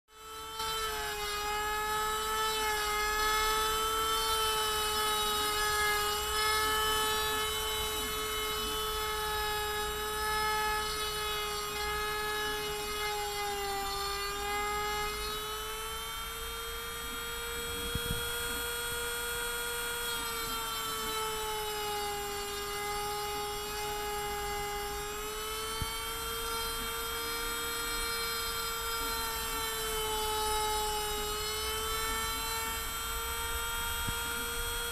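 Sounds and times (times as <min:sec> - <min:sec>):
rotary tool whining cutting wood: 0:00.0 - 0:34.9.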